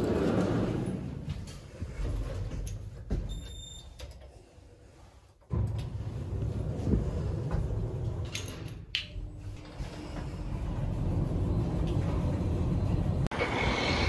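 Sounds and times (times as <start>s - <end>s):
lift rumble and hum: 0.0s - 14.0s.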